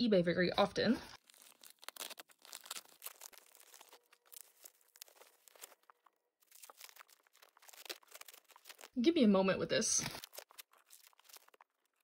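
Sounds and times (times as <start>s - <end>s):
plastic wrap crinkling: 0.8s - 12.0s.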